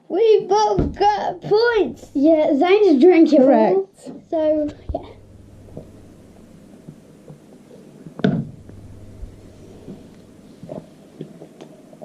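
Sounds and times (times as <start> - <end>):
low steady hum: 0.9 - 3.0, 4.1 - 11.7.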